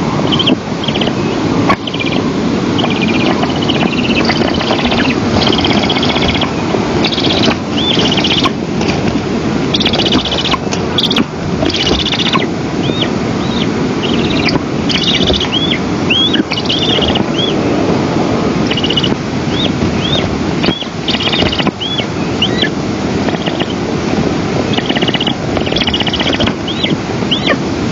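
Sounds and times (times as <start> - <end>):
wind noise on microphone: 0.0 - 27.9
high chirping bird calls: 0.1 - 8.6, 9.6 - 17.9, 18.6 - 23.8, 24.6 - 27.6
buzzy bird trills: 0.2 - 8.6, 9.6 - 17.7, 18.6 - 23.8, 24.6 - 27.6.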